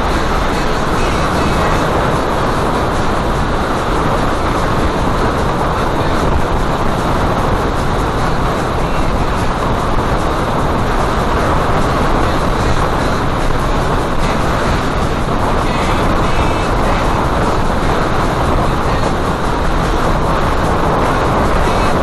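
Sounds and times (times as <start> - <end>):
motorcycle engine cruising: 0.0 - 22.0
wind rushing: 0.0 - 22.0.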